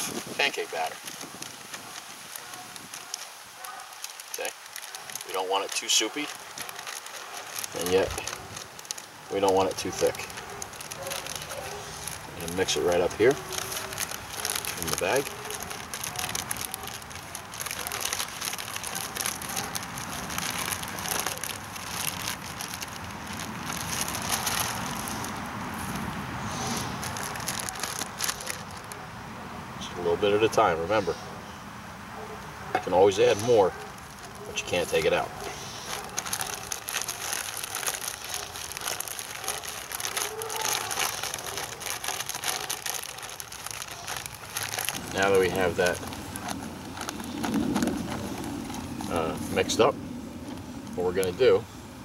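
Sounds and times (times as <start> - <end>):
plastic bag crinkling: 0.0 - 29.0, 32.9 - 51.6.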